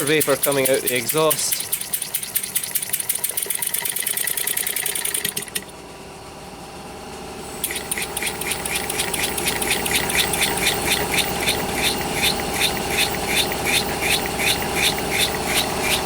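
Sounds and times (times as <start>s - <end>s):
steady engine hum: 0.0s - 3.1s, 4.9s - 16.0s.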